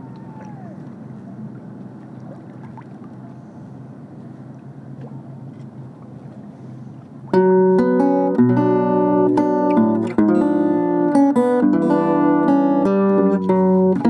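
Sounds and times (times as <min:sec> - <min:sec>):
ship engine droning: 0:00.0 - 0:14.0.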